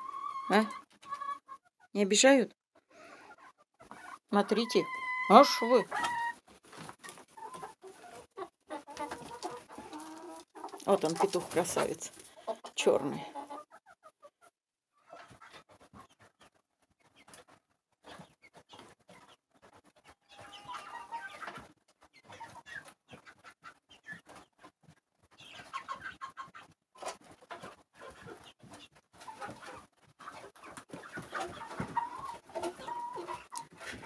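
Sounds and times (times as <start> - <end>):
chickens clucking: 0.0 - 2.1, 2.8 - 34.0.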